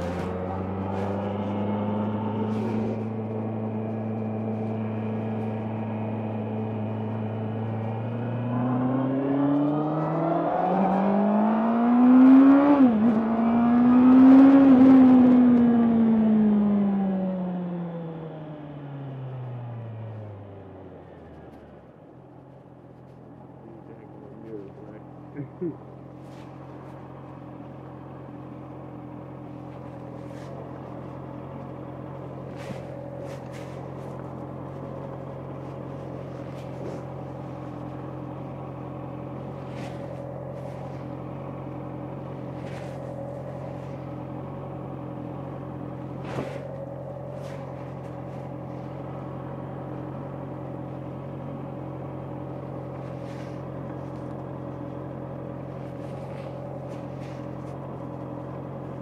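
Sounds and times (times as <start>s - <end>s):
motorcycle engine running: 0.0s - 17.9s, 22.6s - 59.0s.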